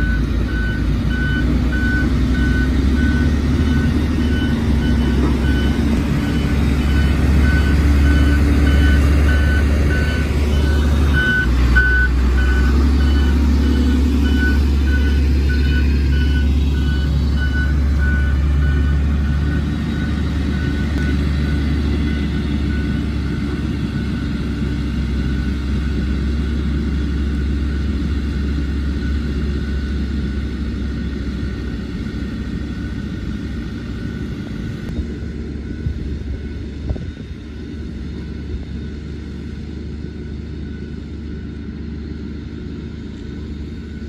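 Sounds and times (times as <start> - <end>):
diesel engines running: 0.0 - 44.0.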